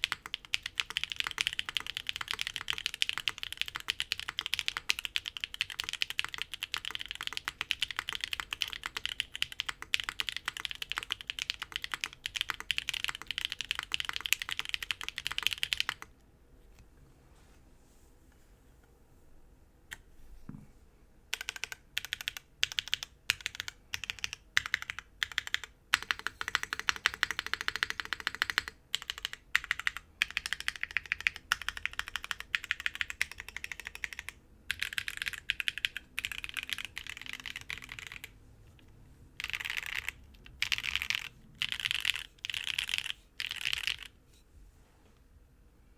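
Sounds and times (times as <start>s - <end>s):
typing on mechanical keyboard: 0.0s - 16.1s, 21.3s - 38.3s, 39.4s - 44.1s.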